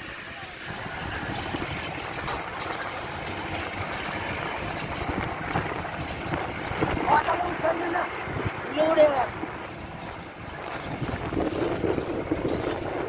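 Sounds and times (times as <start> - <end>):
vehicle engine rumbling: 0.0 - 13.0
vehicle rattles: 0.0 - 13.0.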